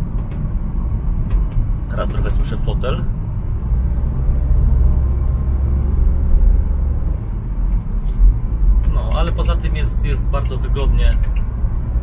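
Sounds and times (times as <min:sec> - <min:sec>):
van engine and tyre noise inside cabin: 0:00.0 - 0:12.0.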